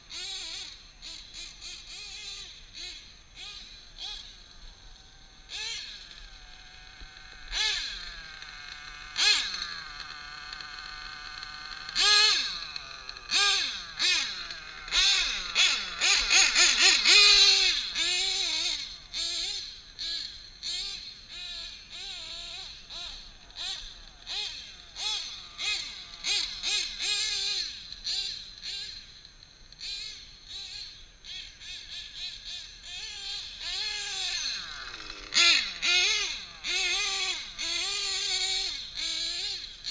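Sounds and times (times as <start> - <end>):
small nitro engine revving: 0.0 - 39.9.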